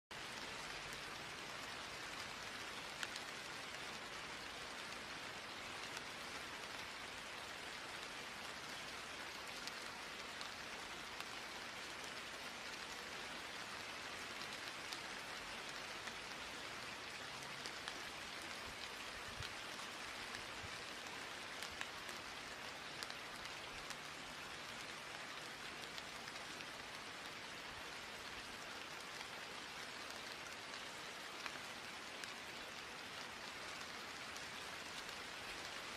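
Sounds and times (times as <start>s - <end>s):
steady rain on a surface: 0.1s - 35.9s
single raindrops ticking: 0.2s - 35.9s.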